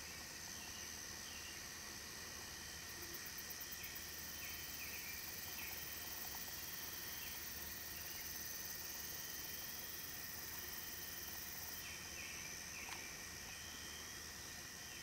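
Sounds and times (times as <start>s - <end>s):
crickets and insects chorus: 0.0s - 15.0s.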